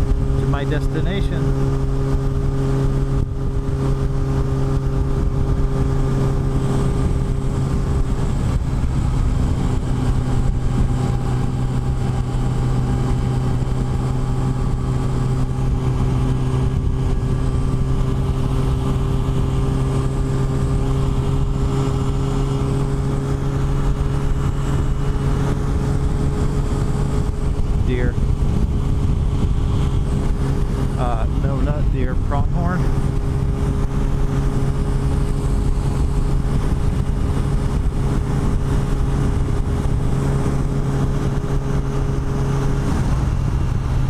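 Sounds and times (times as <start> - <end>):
motorcycle engine cruising: 0.0 - 44.0
wind rushing on microphone: 0.0 - 44.0.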